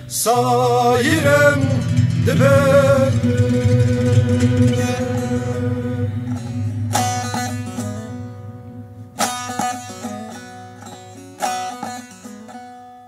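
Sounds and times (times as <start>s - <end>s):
steady low drone: 0.0s - 11.9s
plucked string instrument strumming: 0.0s - 13.0s.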